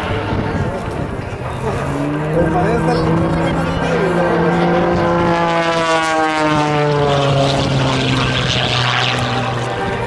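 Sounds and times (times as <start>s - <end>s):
biplane propeller engine running: 0.0s - 10.0s.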